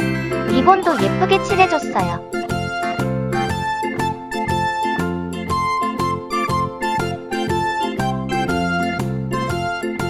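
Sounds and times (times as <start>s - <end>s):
children's keyboard tune: 0.0s - 10.0s.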